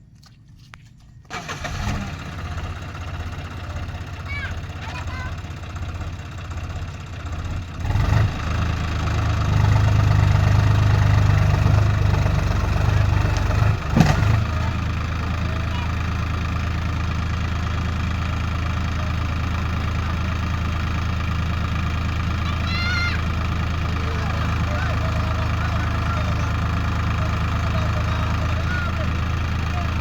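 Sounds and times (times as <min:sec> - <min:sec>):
heavy diesel engine: 0:01.3 - 0:30.0.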